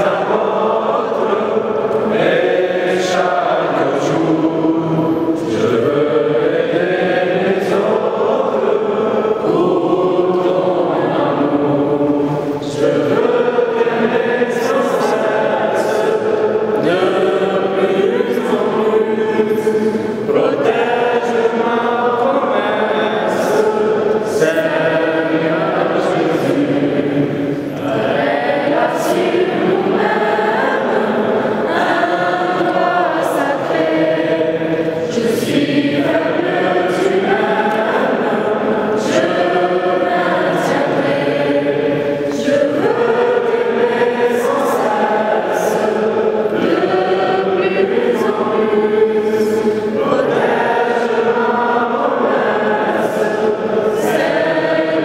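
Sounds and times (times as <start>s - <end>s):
choir chanting a hymn: 0.0s - 55.0s.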